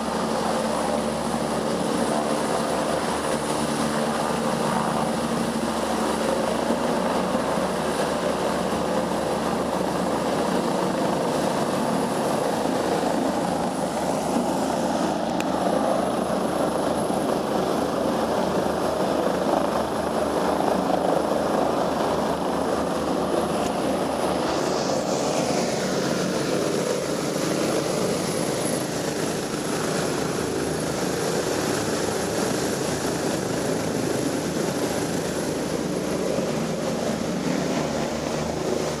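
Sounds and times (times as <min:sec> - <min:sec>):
helicopter rotor and turbine: 0:00.0 - 0:39.0.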